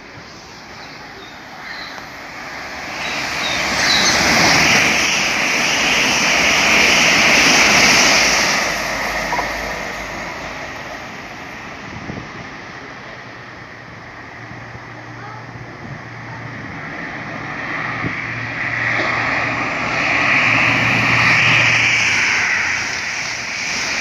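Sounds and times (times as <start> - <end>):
electric train passing at speed: 0.0 - 24.0.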